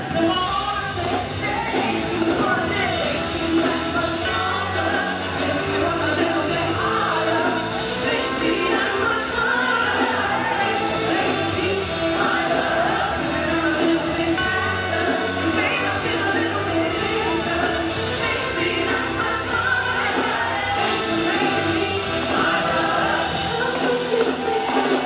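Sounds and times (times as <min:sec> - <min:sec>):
rock band playing: 0:00.0 - 0:25.0
symphony orchestra: 0:00.0 - 0:25.0
woman singing lead: 0:00.0 - 0:25.0.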